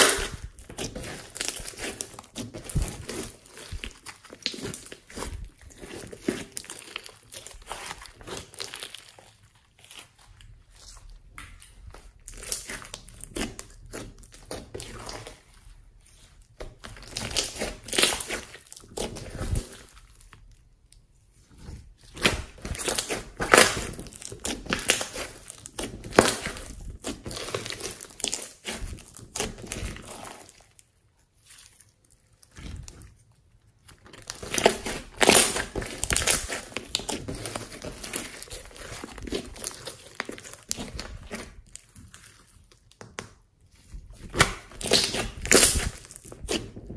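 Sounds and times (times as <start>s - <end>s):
hands squishing slime: 0.0s - 46.9s.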